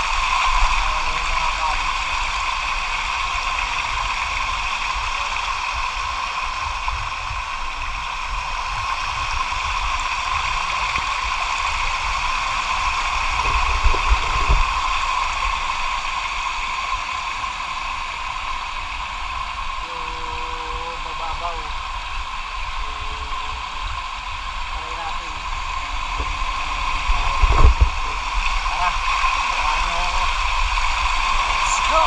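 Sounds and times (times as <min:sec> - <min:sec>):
stream water rushing over rocks: 0:00.0 - 0:32.0.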